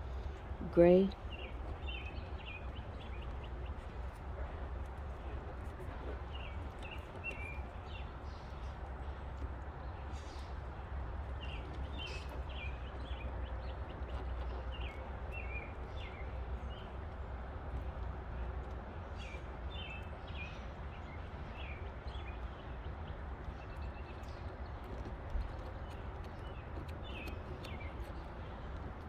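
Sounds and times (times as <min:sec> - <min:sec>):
small birds chirping: 0:00.0 - 0:04.2, 0:06.3 - 0:18.0, 0:19.0 - 0:29.0.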